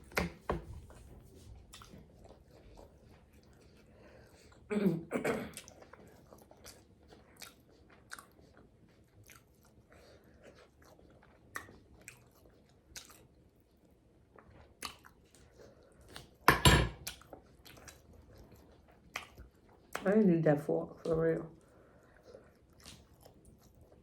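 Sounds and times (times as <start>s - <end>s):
chewing and lip-smacking: 0.0s - 4.7s, 5.5s - 20.2s, 20.9s - 24.0s.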